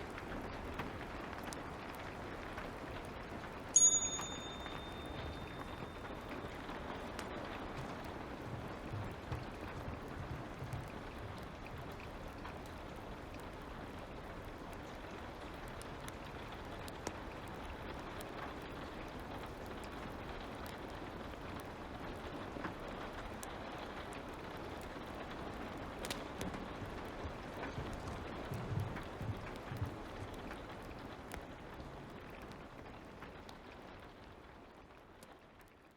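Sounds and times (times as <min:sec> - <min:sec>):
fire crackling and popping: 0:00.0 - 0:35.9
light rain: 0:00.0 - 0:35.9.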